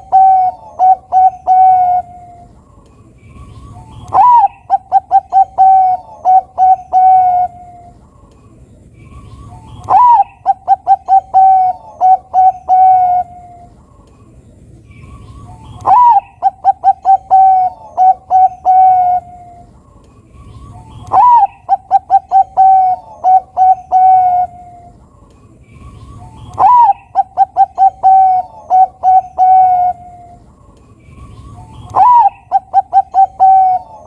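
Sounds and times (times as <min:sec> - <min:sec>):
dove cooing: 0:00.0 - 0:02.6, 0:03.4 - 0:08.0, 0:09.1 - 0:13.8, 0:15.1 - 0:19.8, 0:20.4 - 0:25.0, 0:25.8 - 0:30.5, 0:31.3 - 0:34.0.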